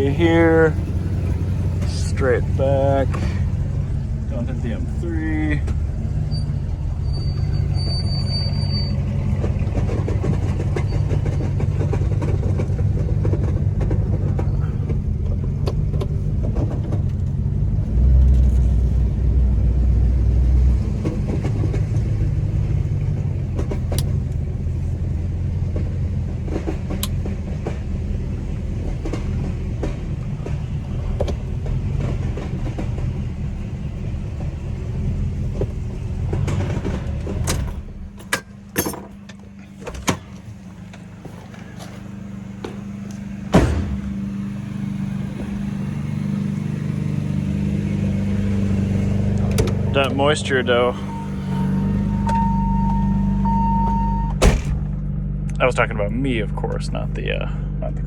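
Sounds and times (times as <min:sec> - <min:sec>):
car engine running at low speed: 0:00.0 - 0:58.0.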